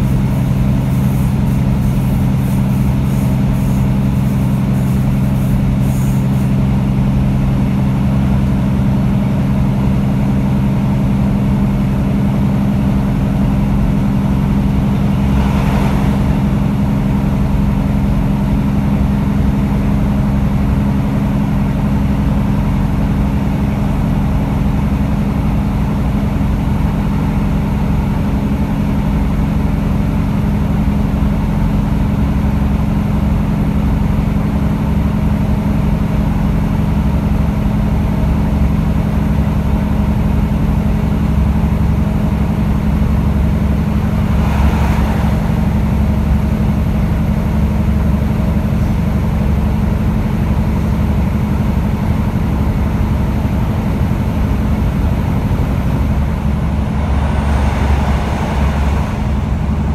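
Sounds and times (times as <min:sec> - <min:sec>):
diesel engine drone: 0:00.0 - 0:59.9
wheels rumbling on track: 0:00.0 - 0:59.9.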